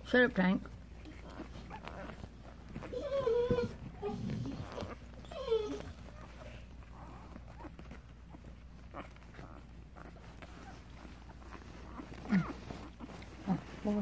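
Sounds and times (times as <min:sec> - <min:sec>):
puppies squealing: 0:01.0 - 0:13.4.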